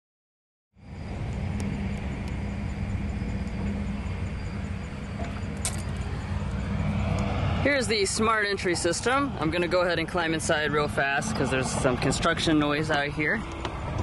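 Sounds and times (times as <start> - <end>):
construction machinery rumble: 0.8 - 14.0.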